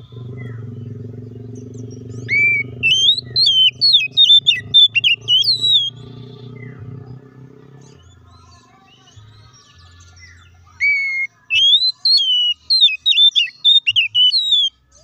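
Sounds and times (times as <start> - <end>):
bird singing whistled notes: 0.0 - 6.8, 7.9 - 15.0.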